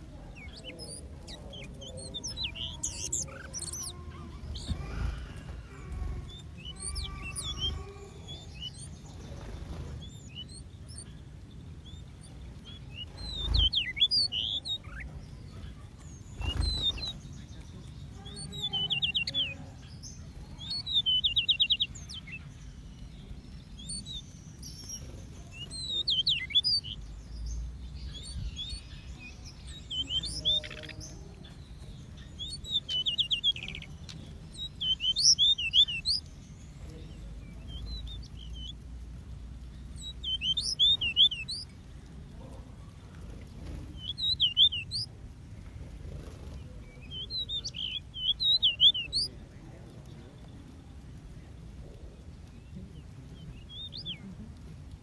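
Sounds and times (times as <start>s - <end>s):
low background hum: 0.0s - 55.0s
small birds chirping and trilling: 0.0s - 55.0s.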